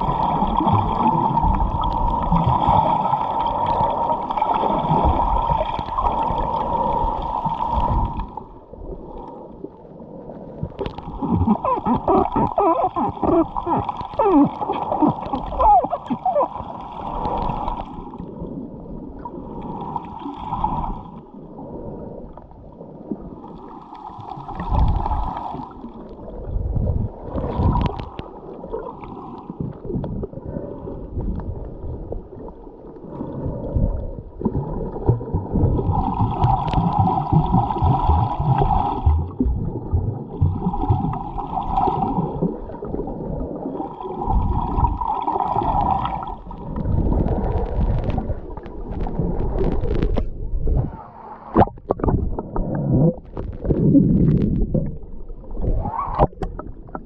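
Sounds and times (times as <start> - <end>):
low underwater rumble: 0.0 - 19.9, 24.5 - 57.0
underwater exhaled bubbles: 0.0 - 57.0.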